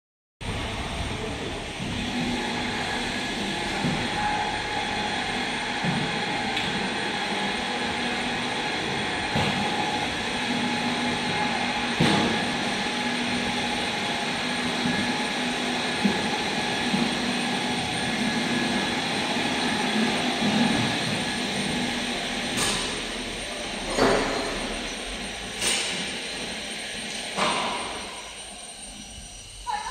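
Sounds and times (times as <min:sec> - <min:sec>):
factory hall hum and hiss: 0:00.4 - 0:29.9.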